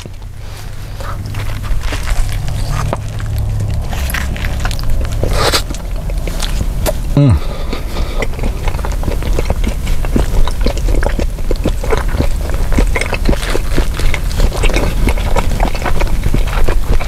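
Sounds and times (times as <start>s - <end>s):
man chewing food: 0.0s - 17.0s.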